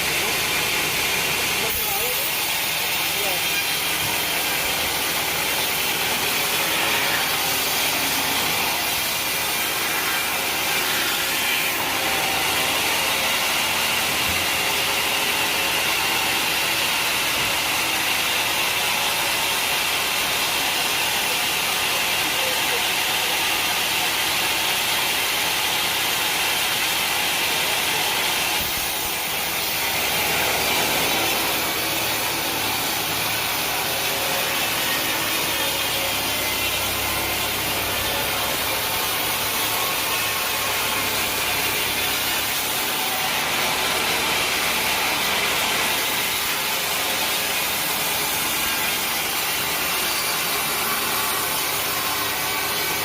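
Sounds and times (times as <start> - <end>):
saw rasping through log: 0.0 - 53.0.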